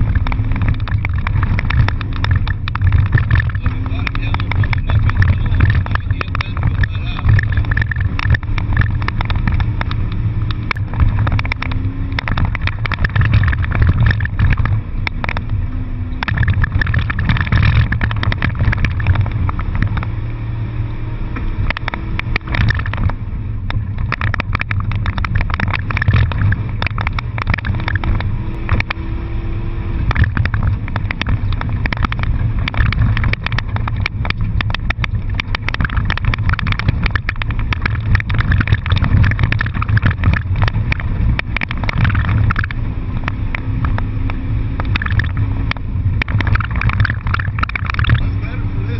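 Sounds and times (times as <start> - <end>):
small knocks and rattles: 0.0 - 20.2, 21.4 - 29.1, 30.0 - 48.4
car engine changing pitch: 0.0 - 48.9
road and tyre noise: 0.0 - 48.9.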